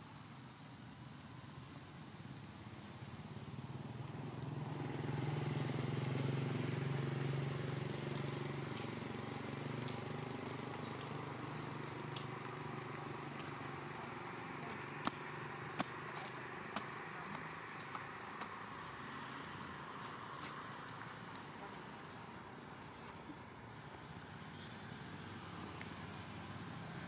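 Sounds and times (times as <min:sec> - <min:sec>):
passing vehicle engine hum: 0:02.3 - 0:27.0.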